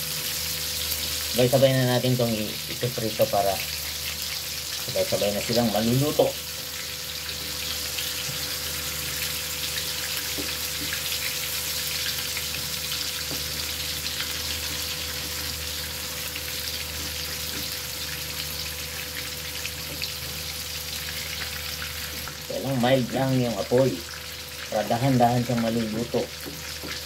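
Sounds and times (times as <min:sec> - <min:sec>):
patties sizzling in a frying pan: 0:00.0 - 0:27.0.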